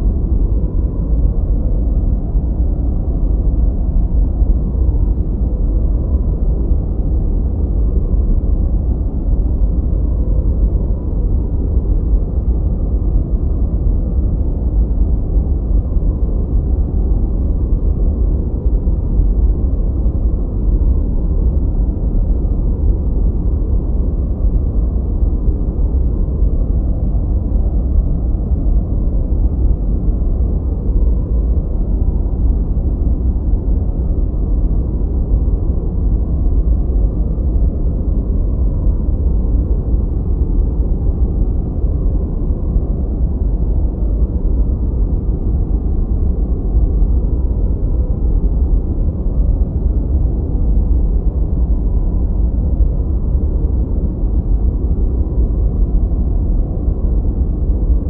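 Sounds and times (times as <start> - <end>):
deep rumbling brown noise: 0.0 - 58.0.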